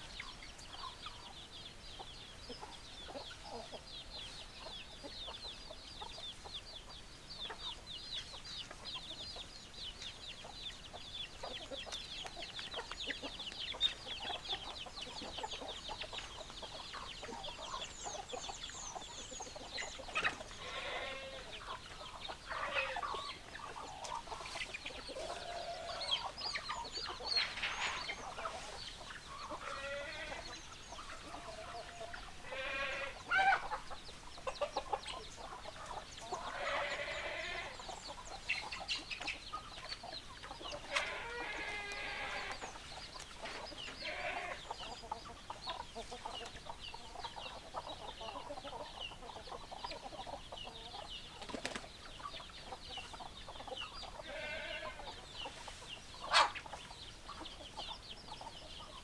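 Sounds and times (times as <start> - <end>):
hens clucking and squawking: 0.0 - 59.0.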